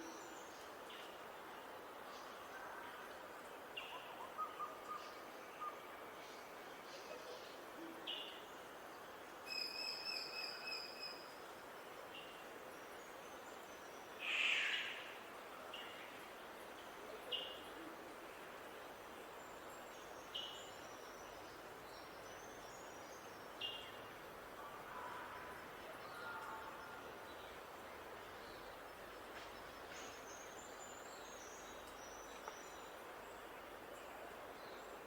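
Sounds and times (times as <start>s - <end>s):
background hiss: 4.8s - 35.0s.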